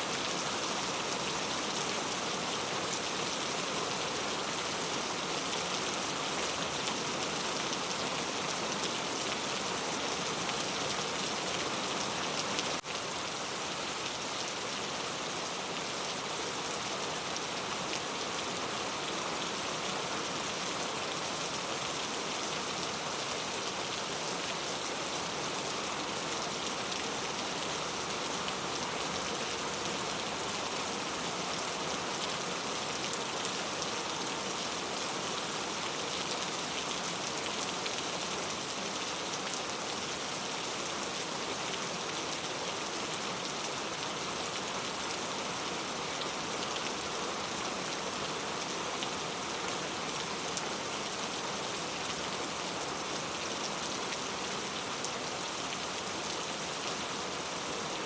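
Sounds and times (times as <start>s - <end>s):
patter of raindrops: 0.0s - 58.0s
steady rain hiss: 0.0s - 58.0s.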